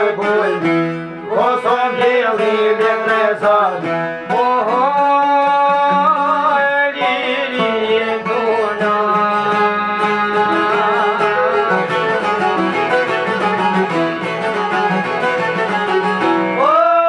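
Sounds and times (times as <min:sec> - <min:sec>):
man singing: 0:00.0 - 0:13.4, 0:16.2 - 0:17.0
plucked lute melody: 0:00.0 - 0:17.0.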